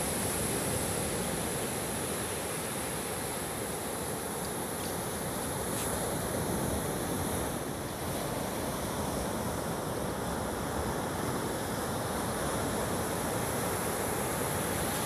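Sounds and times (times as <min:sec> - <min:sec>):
surf washing on beach: 0:00.0 - 0:15.0.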